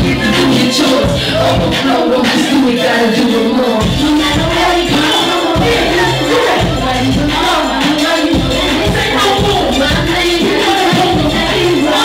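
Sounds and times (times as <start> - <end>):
hip-hop beat with deep bass: 0.0 - 12.0
rapping into a microphone: 0.0 - 12.0.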